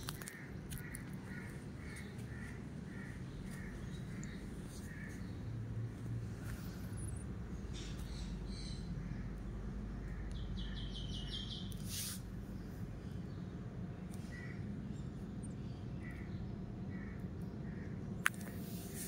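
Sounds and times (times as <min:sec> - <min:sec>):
birds chirping faintly: 0:00.0 - 0:19.0
low background hum: 0:00.0 - 0:19.0.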